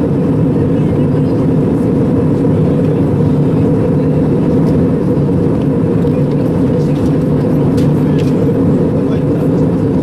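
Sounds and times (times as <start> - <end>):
airplane cabin engine rush: 0.0 - 10.0.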